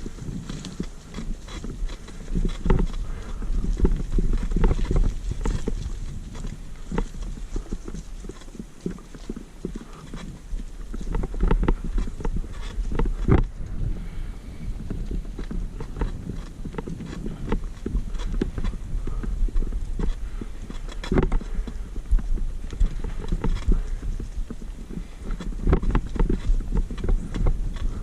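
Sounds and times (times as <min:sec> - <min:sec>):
mountain bike rattling on dirt trail: 0:00.0 - 0:28.0
steady low rumble: 0:00.0 - 0:28.0.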